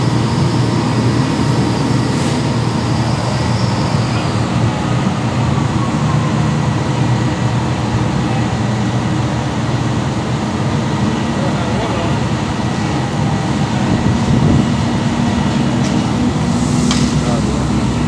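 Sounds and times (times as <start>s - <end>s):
diesel engines droning: 0.0s - 18.0s.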